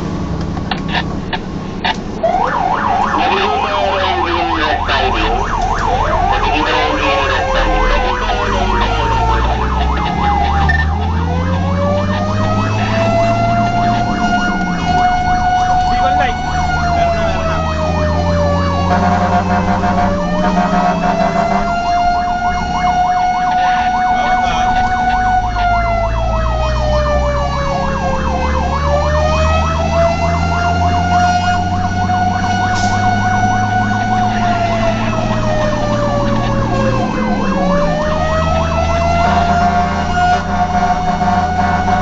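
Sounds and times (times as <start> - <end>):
fire truck siren wailing: 0.0 - 42.0
truck engine running: 0.0 - 42.0
fast warbling siren: 0.8 - 42.0.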